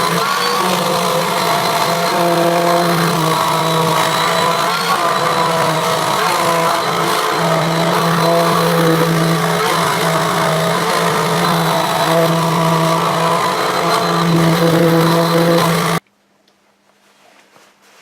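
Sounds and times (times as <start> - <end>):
orbital sander humming: 0.0 - 16.0.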